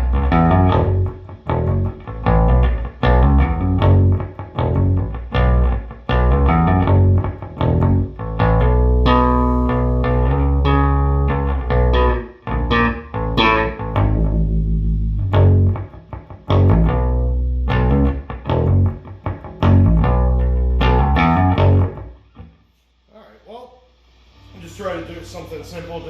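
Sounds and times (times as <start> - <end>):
plucked bass guitar notes: 0.0 - 22.2.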